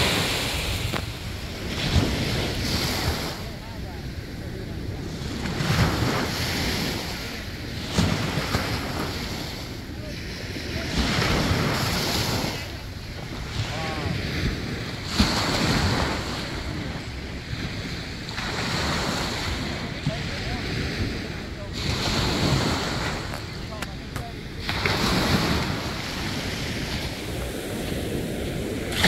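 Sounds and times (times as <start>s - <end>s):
waves breaking on sandy beach: 0.0s - 29.0s
wind rumble on microphone: 0.0s - 29.0s.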